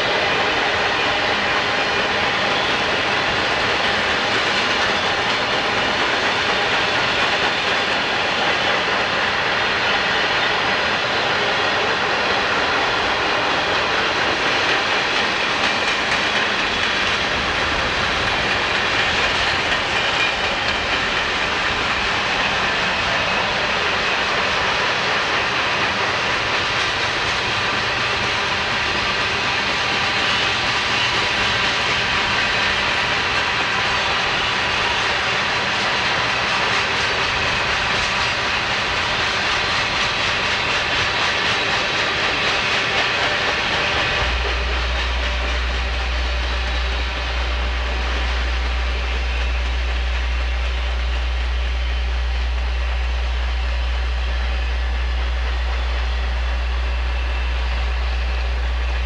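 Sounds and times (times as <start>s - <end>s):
freight train wheels rolling on rails: 0.0s - 59.0s.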